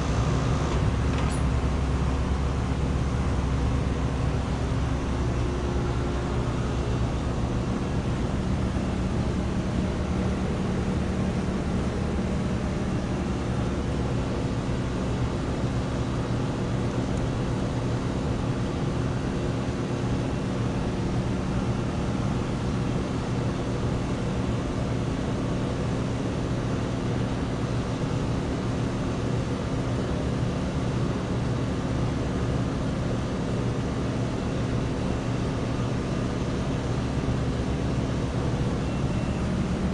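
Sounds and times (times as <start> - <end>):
compressor hum: 0.0 - 39.9
condenser fans rushing: 0.0 - 39.9.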